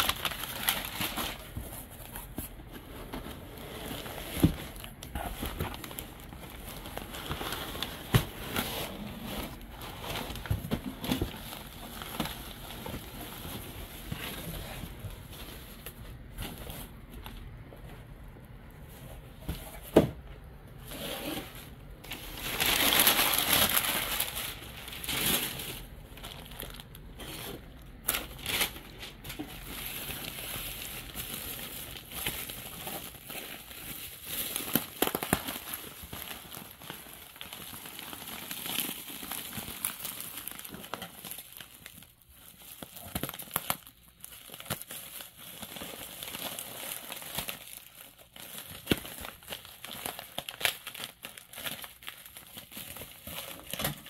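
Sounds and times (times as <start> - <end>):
plastic packaging crinkling: 0.0 - 17.6, 21.3 - 54.0.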